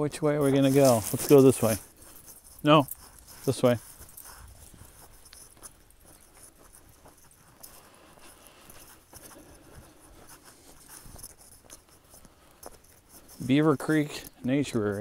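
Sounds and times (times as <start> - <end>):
footsteps on dirt trail: 0.4 - 15.0.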